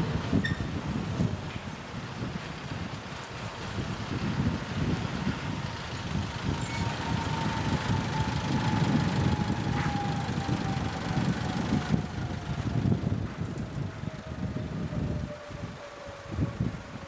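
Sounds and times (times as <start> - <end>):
electric train whine: 0.0 - 17.0
train low rumble: 0.0 - 17.0
wind buffeting microphone: 0.0 - 17.0.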